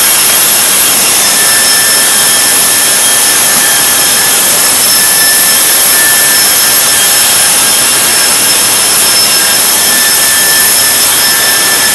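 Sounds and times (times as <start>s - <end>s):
cooling fans rushing hiss: 0.0s - 11.9s
faint high whines: 0.0s - 11.9s.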